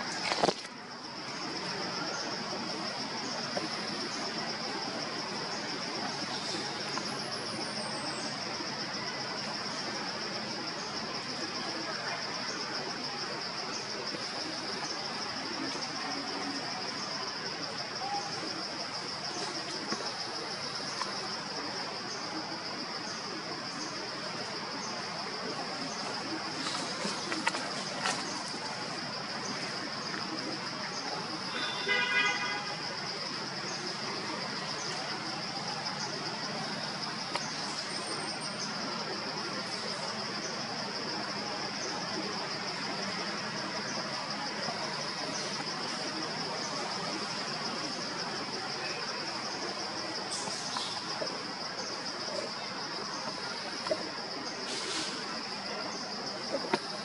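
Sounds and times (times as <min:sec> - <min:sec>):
constant hiss: 0:00.0 - 0:57.0
faint chirps: 0:00.0 - 0:57.0
high-pitched insect chorus: 0:00.0 - 0:57.0.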